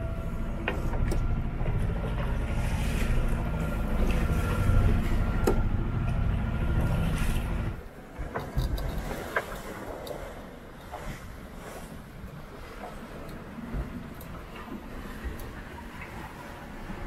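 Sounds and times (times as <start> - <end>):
sea rushing past boat: 0.0 - 17.0
wind buffeting microphone: 0.0 - 17.0.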